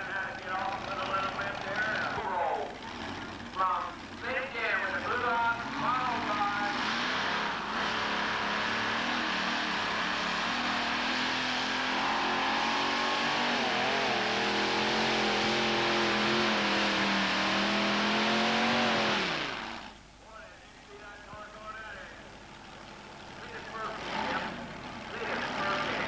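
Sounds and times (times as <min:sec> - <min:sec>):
tractor engine roaring: 0:00.0 - 0:20.2, 0:20.9 - 0:26.0.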